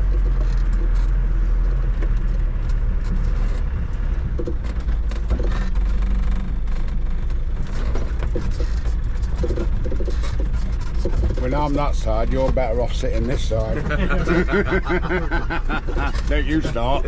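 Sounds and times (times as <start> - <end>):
diesel engine running inside vehicle: 0.0 - 17.0
vehicle body knocking and rattling: 0.0 - 17.0.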